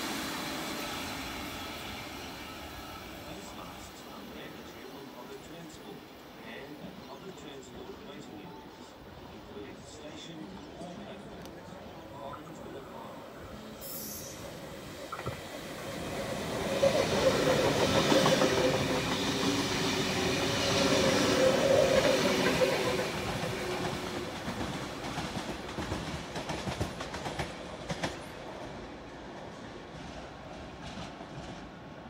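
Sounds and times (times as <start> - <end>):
electric train passing: 0.0 - 10.2, 11.1 - 29.9.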